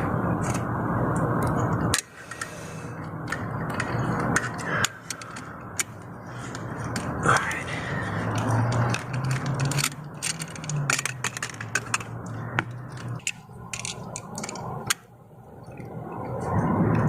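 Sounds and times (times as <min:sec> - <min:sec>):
metal tools clicking and rattling: 0:01.4 - 0:15.1.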